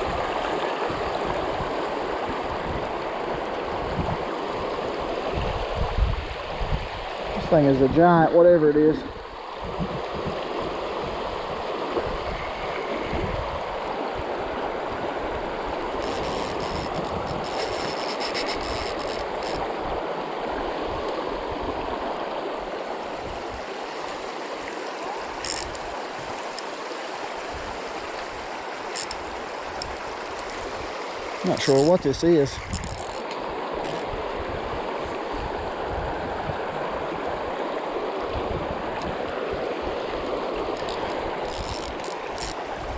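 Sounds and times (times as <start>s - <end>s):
river current rushing: 0.0s - 42.9s.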